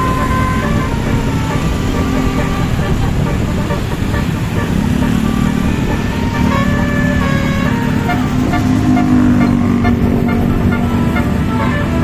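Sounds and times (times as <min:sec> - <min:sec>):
multi-tone bus horn: 0:00.0 - 0:12.0
traffic and engine rumble: 0:00.0 - 0:12.0.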